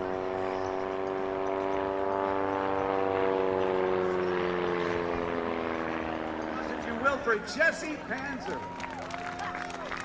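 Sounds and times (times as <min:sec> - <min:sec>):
propeller plane engine droning: 0:00.0 - 0:10.0.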